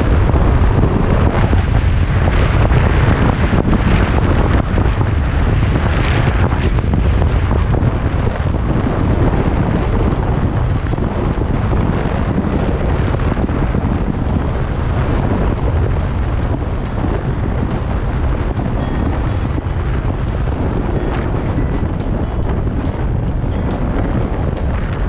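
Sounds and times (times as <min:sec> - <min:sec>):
motorcycle engine rumble: 0:00.0 - 0:25.0
wind buffeting microphone: 0:00.0 - 0:25.0.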